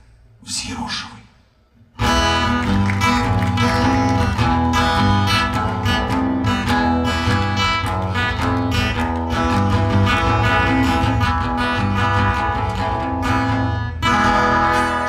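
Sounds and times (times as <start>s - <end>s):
acoustic guitar strumming chords: 2.0s - 15.0s.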